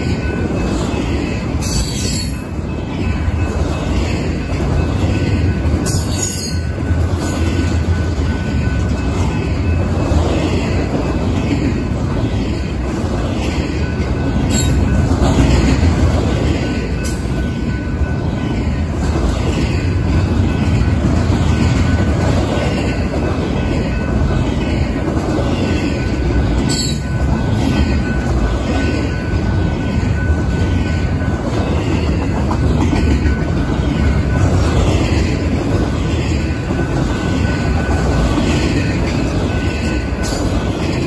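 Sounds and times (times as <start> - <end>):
steel wheels rumbling on rail: 0.0 - 41.0.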